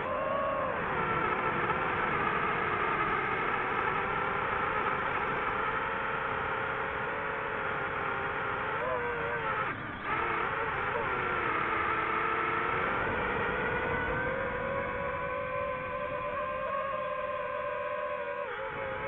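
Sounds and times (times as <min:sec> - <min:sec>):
drone motors and propellers whining: 0:00.0 - 0:19.0.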